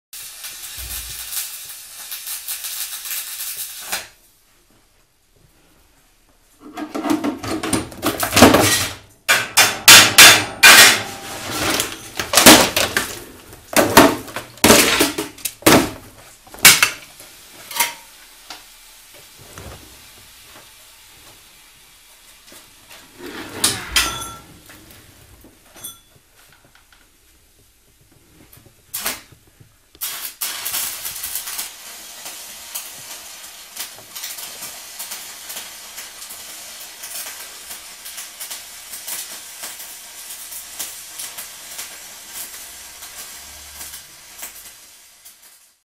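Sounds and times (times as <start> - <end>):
steady hiss: 0.2 - 6.6, 10.4 - 45.8.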